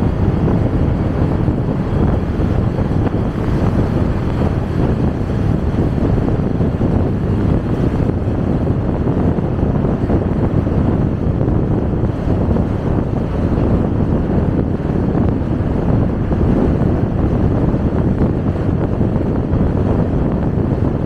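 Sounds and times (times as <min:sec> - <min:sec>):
motorcycle engine: 0:00.0 - 0:17.1
road noise: 0:00.0 - 0:21.0
wind rumble on microphone: 0:00.0 - 0:21.0.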